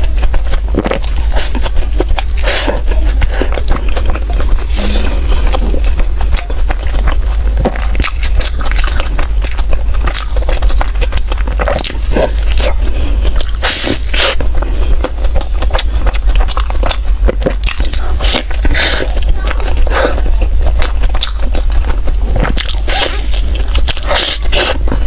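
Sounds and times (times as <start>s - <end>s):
low hum: 0.0s - 25.0s
person chewing bread: 0.0s - 25.0s.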